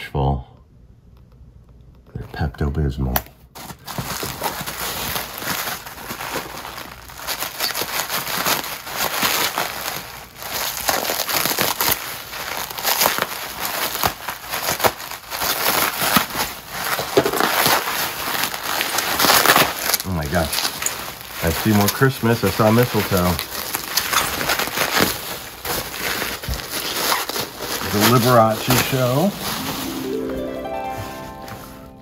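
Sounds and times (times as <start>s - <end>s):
bubble wrap crinkling: 3.5s - 32.0s.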